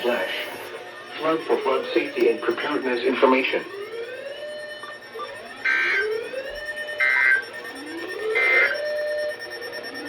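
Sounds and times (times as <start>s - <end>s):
alarm clock beeping: 0.0s - 10.0s.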